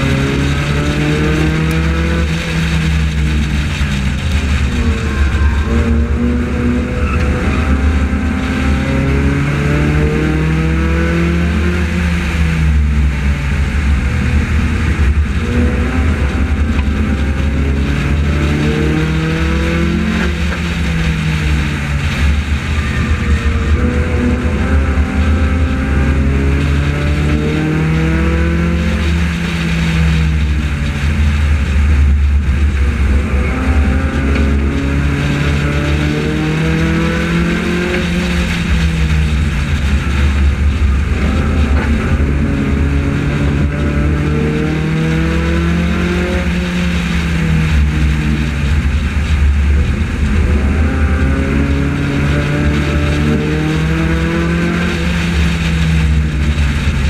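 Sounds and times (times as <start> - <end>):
race car engine revving: 0.0 - 57.0
road and wind rumble: 0.0 - 57.0.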